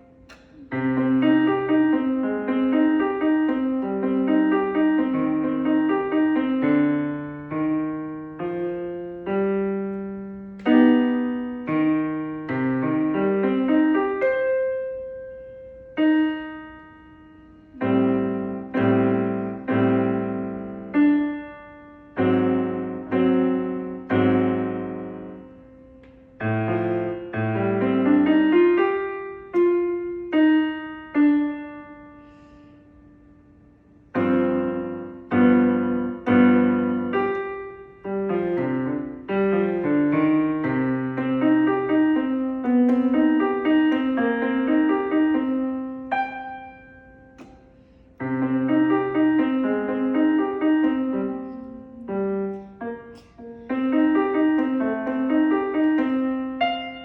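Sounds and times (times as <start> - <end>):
solo piano playing slow piece: 0.0 - 57.0.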